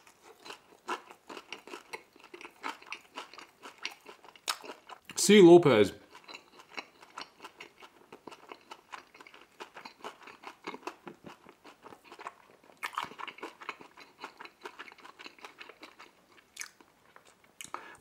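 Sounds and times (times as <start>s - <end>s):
chewing pizza with crunches: 0.0s - 5.2s, 6.0s - 18.0s.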